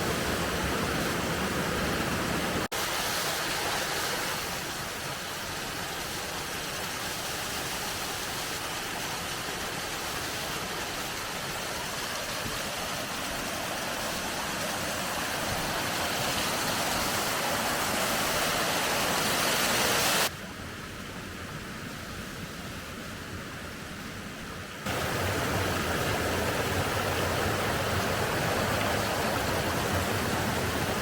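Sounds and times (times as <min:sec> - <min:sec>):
waterfall rushing: 0:00.0 - 0:20.3, 0:24.8 - 0:31.0.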